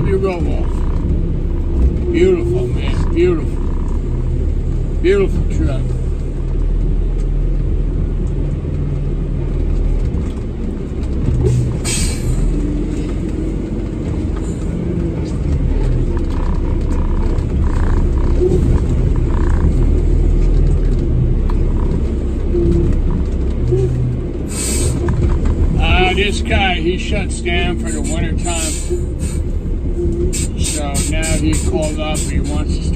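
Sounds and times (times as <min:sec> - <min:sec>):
diesel truck engine running: 0:00.0 - 0:32.9.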